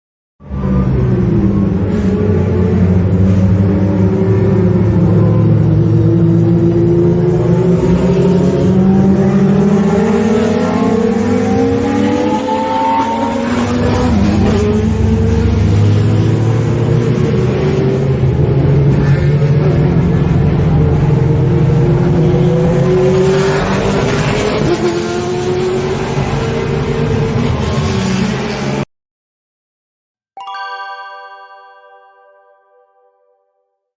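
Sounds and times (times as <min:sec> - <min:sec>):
racing car engines revving: 0:00.5 - 0:28.8.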